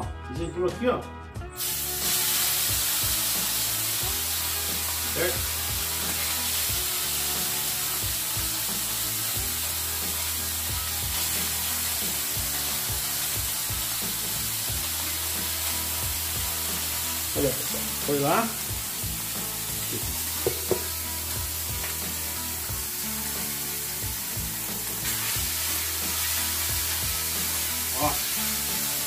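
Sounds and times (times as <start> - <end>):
liver sizzling on hot griddle: 1.6 - 29.0.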